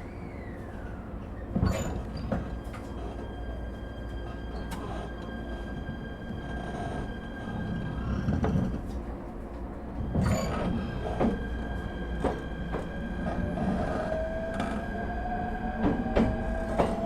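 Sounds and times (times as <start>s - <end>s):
electric train motor whine: 0.0s - 17.0s.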